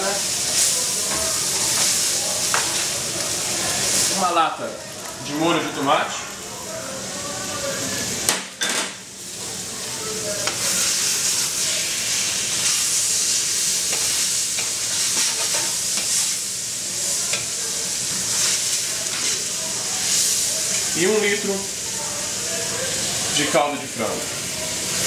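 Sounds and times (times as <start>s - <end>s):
rice sizzling in a pan: 0.0s - 25.0s.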